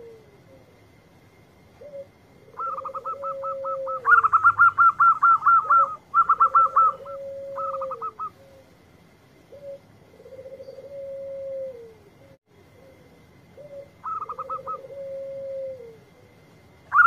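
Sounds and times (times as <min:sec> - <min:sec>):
dove low rolling coos: 0:00.0 - 0:01.0, 0:01.7 - 0:17.0.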